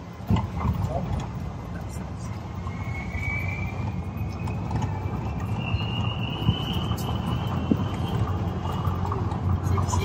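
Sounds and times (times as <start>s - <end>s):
low road rumble: 0.0s - 10.0s.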